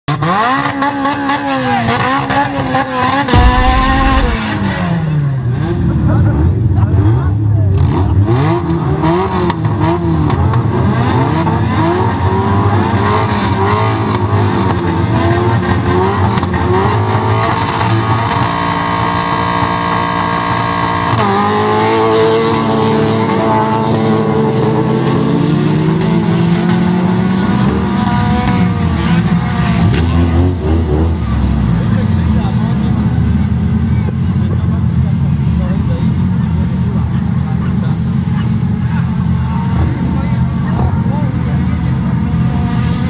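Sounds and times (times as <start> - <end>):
car engines revving: 0.1 - 43.0.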